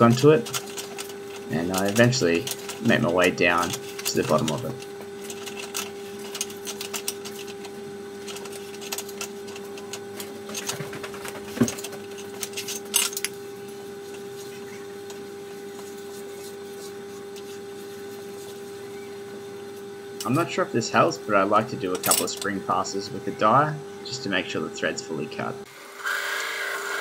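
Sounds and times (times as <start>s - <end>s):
steady hum: 0.0s - 25.9s.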